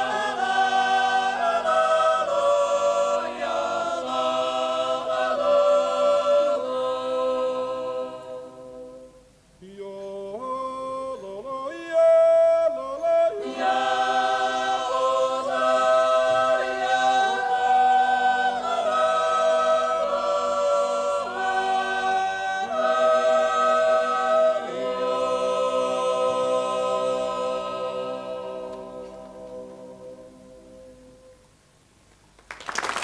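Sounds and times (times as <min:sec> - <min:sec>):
choir singing a cappella: 0:00.0 - 0:31.4.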